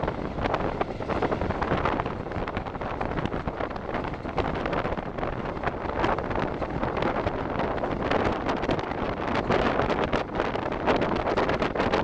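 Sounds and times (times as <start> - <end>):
train running: 0.0 - 12.0
wind buffeting the microphone: 0.0 - 12.0.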